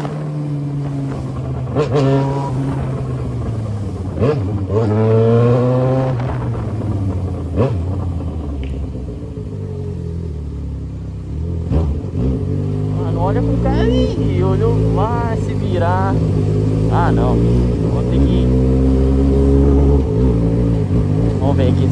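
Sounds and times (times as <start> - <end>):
exhaust cracks: 0.0 - 21.9
motorcycle engine accelerating: 0.0 - 21.9.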